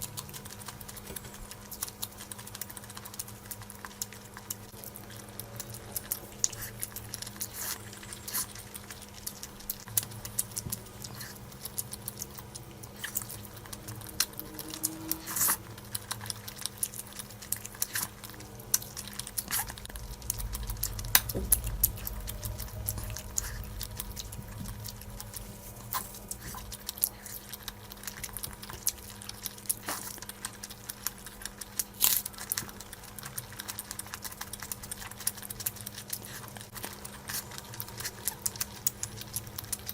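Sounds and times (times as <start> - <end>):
faint steady hum: 0.0 - 39.9
wet chewing and lip smacks: 0.0 - 39.9.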